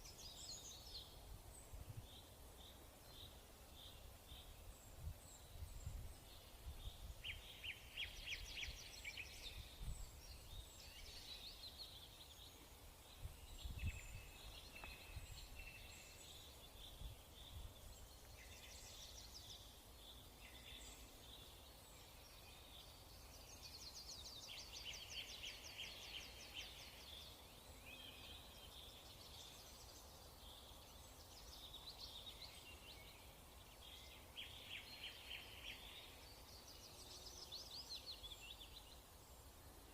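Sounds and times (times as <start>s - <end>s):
faint birdsong: 0.0s - 39.9s.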